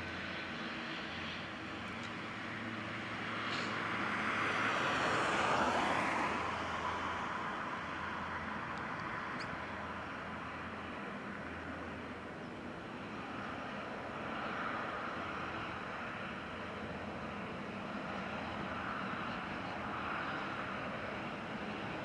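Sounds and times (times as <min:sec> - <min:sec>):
jet engines rushing hum: 0:00.0 - 0:22.0.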